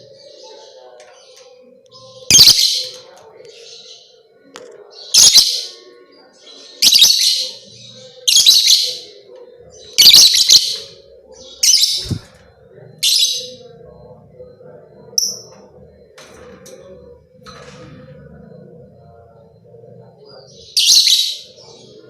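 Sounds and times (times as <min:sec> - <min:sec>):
high bird chirp: 0:00.0 - 0:04.2, 0:06.4 - 0:22.0.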